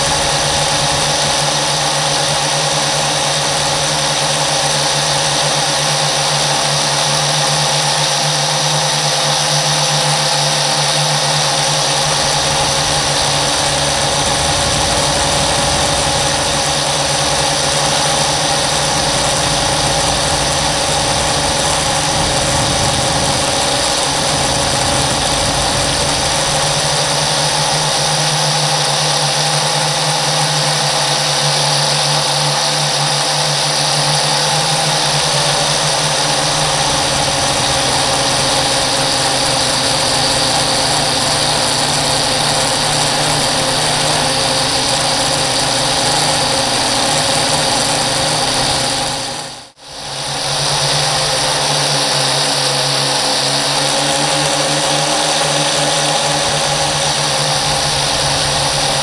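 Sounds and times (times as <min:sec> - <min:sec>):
drone propellers whining: 0:00.0 - 0:08.4, 0:09.3 - 0:29.6, 0:33.8 - 0:59.0.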